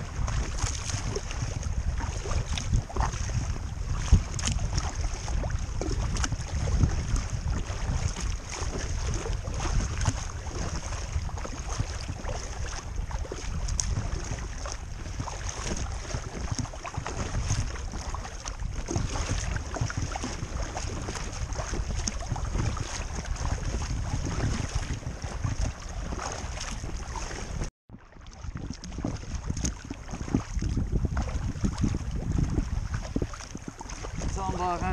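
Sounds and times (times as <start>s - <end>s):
paddle strokes splashing: 0.0s - 34.9s
small waves lapping: 0.0s - 34.9s
wind buffeting microphone: 0.0s - 34.9s.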